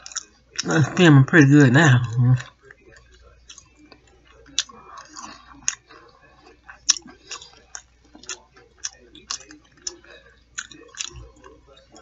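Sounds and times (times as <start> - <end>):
chewing food: 0.0 - 12.0.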